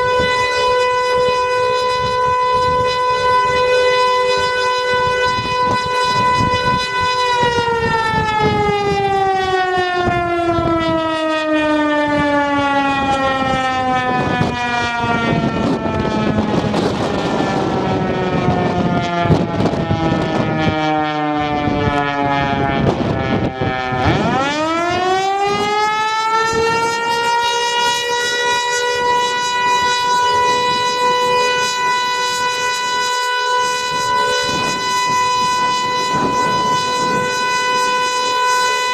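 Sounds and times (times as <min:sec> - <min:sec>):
outdoor warning siren: 0:00.0 - 0:38.9.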